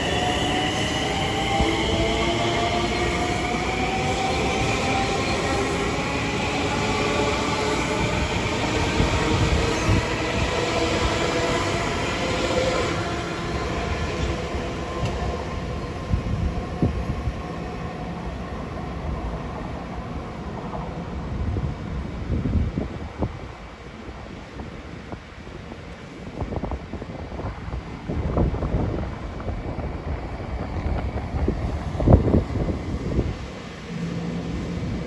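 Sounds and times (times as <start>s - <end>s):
train whine: 0.0s - 24.4s, 25.2s - 35.0s
train rumble: 0.0s - 35.0s.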